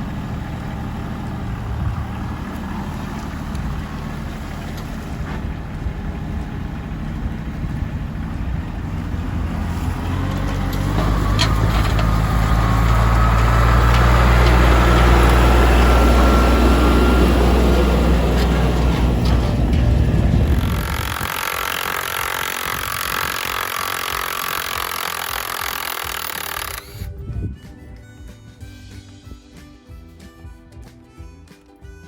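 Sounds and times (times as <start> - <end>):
tractor engine running: 0.0 - 30.4.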